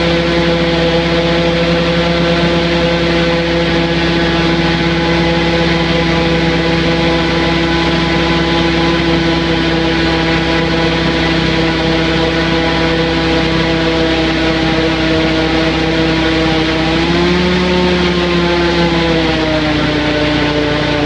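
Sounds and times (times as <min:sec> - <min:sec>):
airboat engine and propeller drone: 0:00.0 - 0:21.0.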